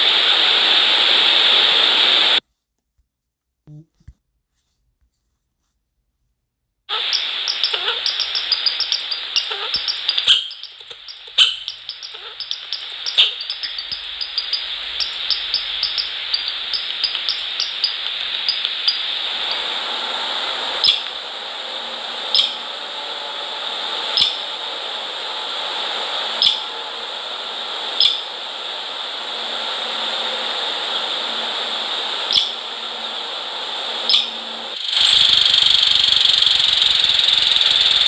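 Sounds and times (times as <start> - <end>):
steady hiss: 0.0 - 2.4, 6.9 - 38.0.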